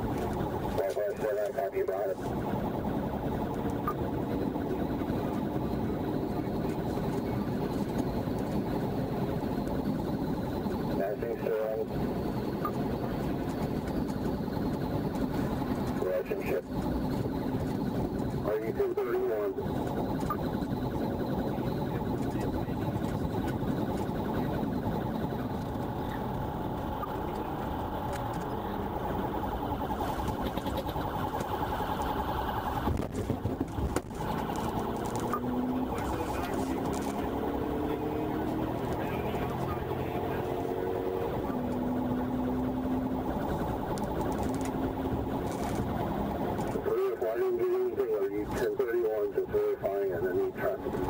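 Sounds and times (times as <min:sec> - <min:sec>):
car engine cruising: 0:00.0 - 0:51.0
police siren yelping: 0:00.0 - 0:51.0
road noise inside a car: 0:00.0 - 0:51.0.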